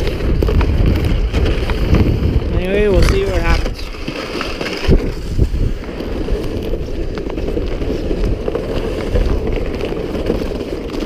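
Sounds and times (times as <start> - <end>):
footsteps on ice: 0.0 - 11.0
plastic sled scraping over ice: 0.0 - 11.0.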